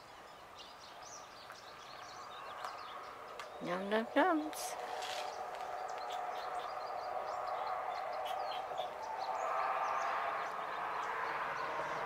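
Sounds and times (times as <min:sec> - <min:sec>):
high bird chirps: 0:00.6 - 0:12.0.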